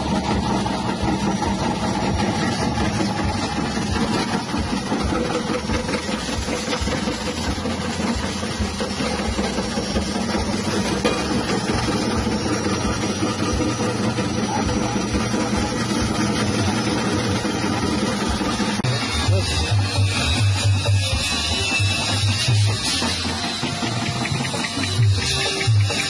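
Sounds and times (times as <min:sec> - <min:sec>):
electric slicer motor humming: 0:00.0 - 0:26.0.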